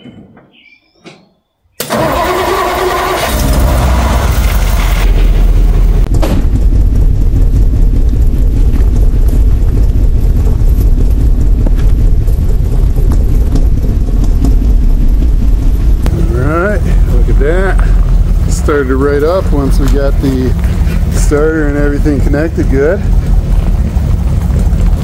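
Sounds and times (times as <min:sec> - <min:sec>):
car engine starting and running: 0:01.8 - 0:25.0.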